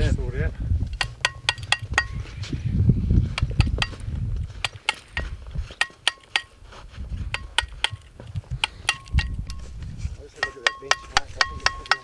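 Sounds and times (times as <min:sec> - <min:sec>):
wind rumble on microphone: 0:00.0 - 0:05.8, 0:06.6 - 0:12.0.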